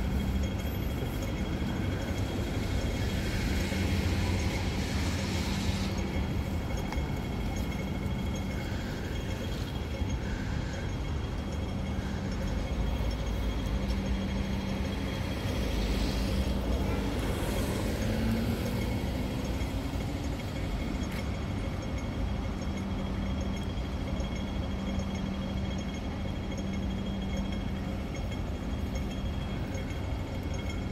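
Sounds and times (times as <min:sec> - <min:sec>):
light rail train rumbling: 0:00.0 - 0:30.9.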